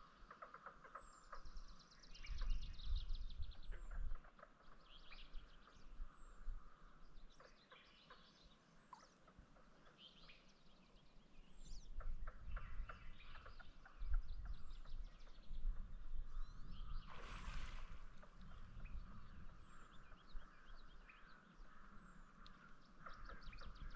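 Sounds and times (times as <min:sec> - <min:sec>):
birds singing and chirping: 0:00.0 - 0:23.9.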